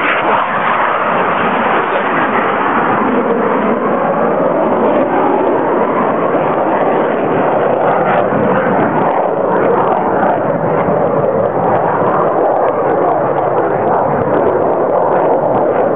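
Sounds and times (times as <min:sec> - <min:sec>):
fighter jet flying overhead: 0:00.0 - 0:15.9.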